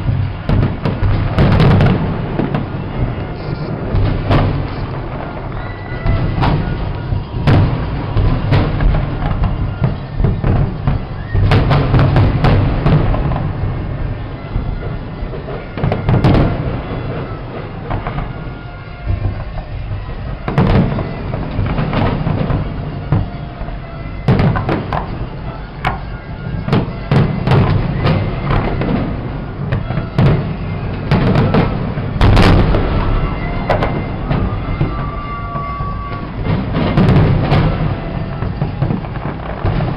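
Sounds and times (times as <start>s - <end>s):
fireworks booming and banging: 0.0s - 39.9s.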